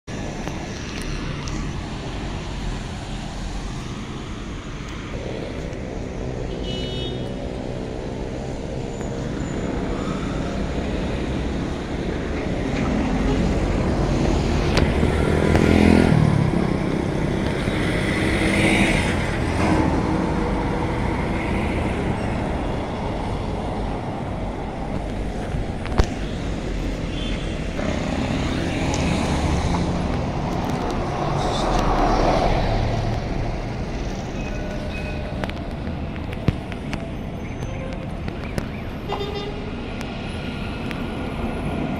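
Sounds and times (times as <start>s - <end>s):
road vehicles passing: 0.0s - 41.9s
bus passing close: 7.3s - 41.9s.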